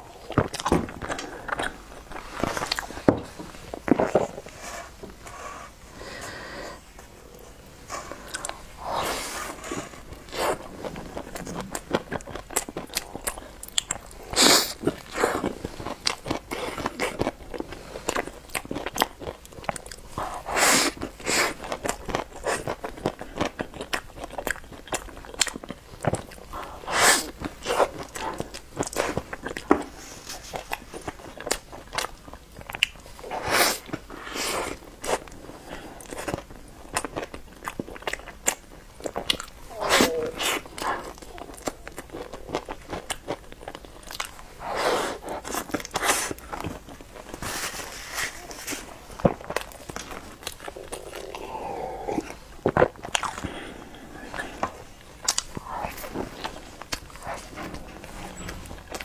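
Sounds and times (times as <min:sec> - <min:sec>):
person chewing bread: 0:00.0 - 0:59.0.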